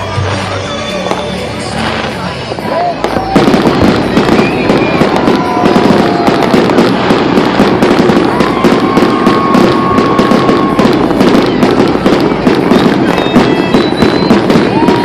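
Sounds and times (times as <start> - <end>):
fireworks crackles and bangs: 0.0 - 15.0.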